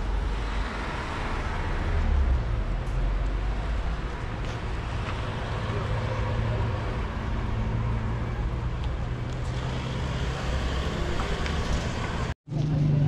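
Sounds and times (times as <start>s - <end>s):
car engines and road noise: 0.0s - 13.0s.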